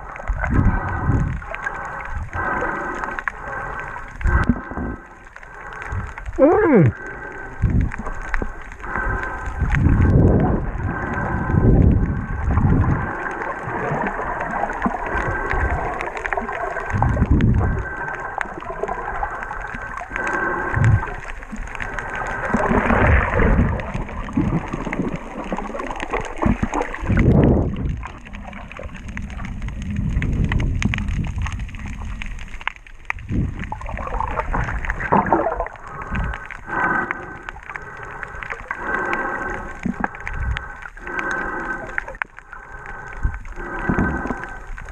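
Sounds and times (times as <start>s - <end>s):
muffled underwater rushing: 0.0s - 44.9s.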